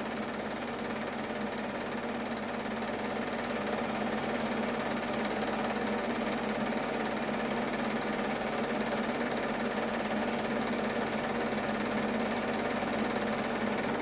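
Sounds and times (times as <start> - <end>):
film projector clattering: 0.0 - 14.0.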